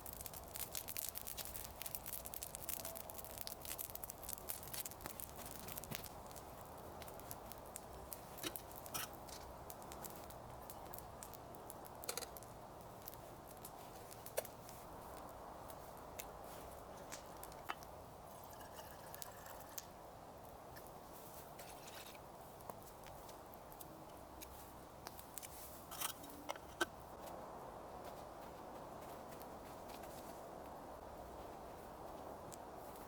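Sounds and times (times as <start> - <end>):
campfire crackling and popping: 0.0 - 27.6.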